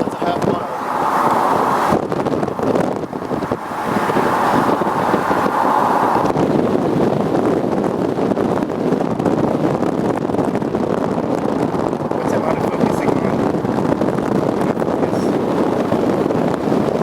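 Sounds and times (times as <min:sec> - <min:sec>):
road and wind noise in car: 0:00.0 - 0:17.0
wind buffeting microphone: 0:00.0 - 0:17.0.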